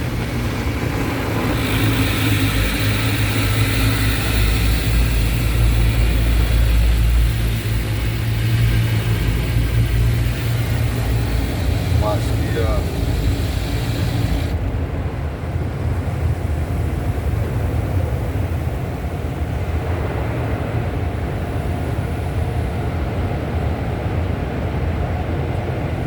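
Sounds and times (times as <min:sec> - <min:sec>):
car wash equipment rumbling: 0:00.0 - 0:22.8.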